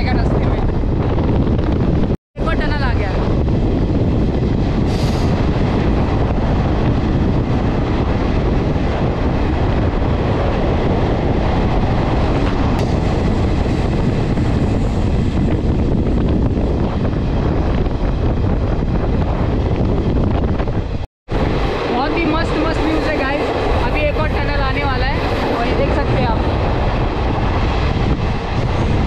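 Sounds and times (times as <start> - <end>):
rushing air: 0.0 - 29.0
train wheels rumbling on rails: 3.2 - 29.0.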